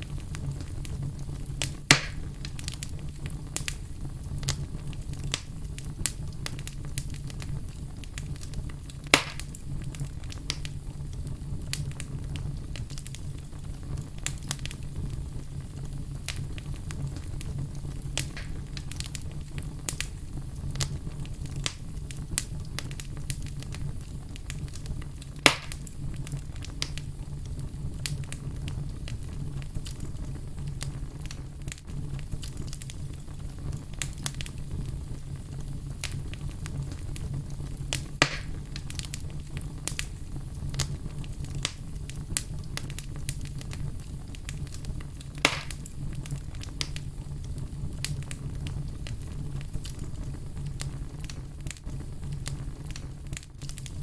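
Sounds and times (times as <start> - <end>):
fire crackling: 0.0 - 54.0
fire popping: 0.0 - 54.0.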